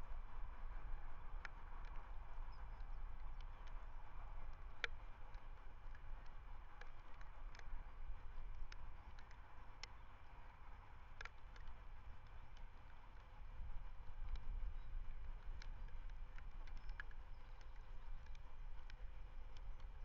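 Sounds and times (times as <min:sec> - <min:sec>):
faint ticks and clicks: 0:00.0 - 0:20.0
wind rumbling on microphone: 0:00.0 - 0:20.0.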